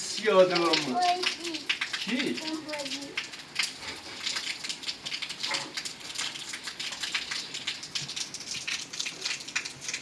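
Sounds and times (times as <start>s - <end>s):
rain pattering: 0.0s - 10.0s.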